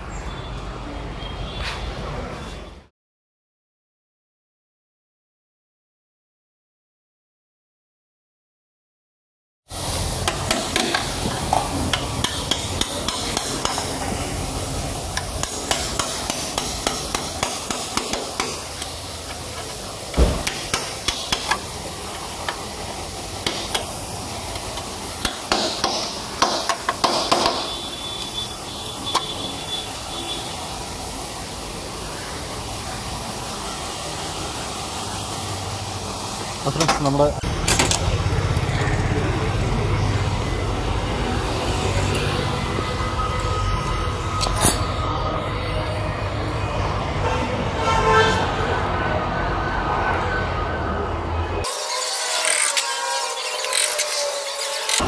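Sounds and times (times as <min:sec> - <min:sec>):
workshop background noise: 0:00.0 - 0:02.9, 0:09.7 - 0:55.0.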